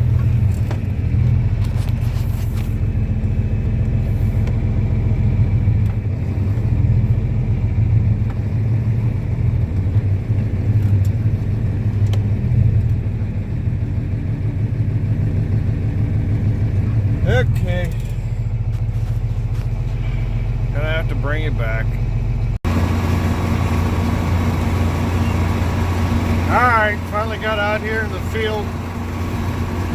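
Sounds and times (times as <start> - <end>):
tractor diesel engine rumbling: 0.0 - 29.9.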